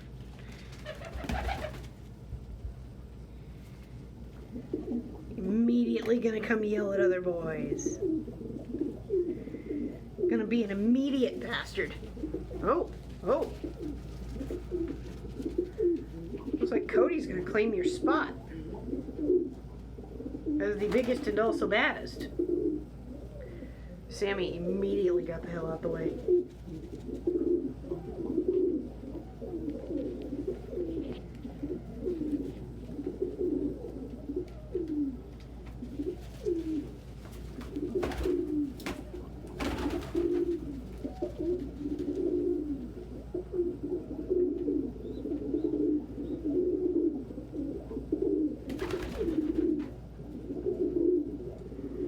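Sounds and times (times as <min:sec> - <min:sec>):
pigeons cooing: 0:00.0 - 0:02.2, 0:02.9 - 0:05.7, 0:06.4 - 0:52.0.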